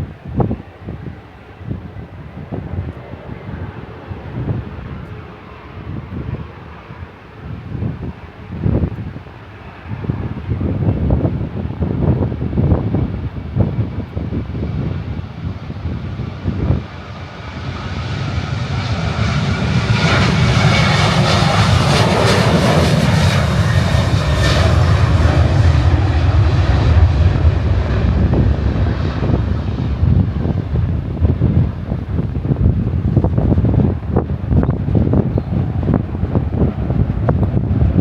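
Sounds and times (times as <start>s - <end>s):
jet airliner engine roar: 0.0s - 38.0s.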